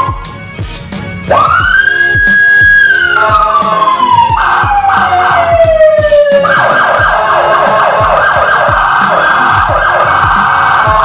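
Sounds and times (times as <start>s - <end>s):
background music with steady beat: 0.0s - 11.0s
fast warbling siren: 1.3s - 11.0s
siren tone sliding down: 1.3s - 11.0s.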